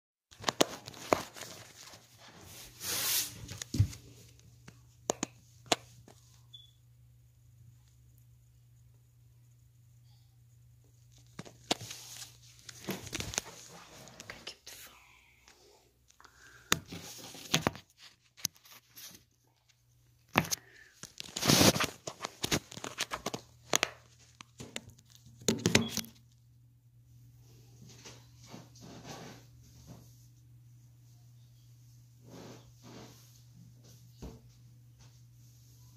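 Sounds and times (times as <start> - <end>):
faint steady hum: 0.8 - 35.9.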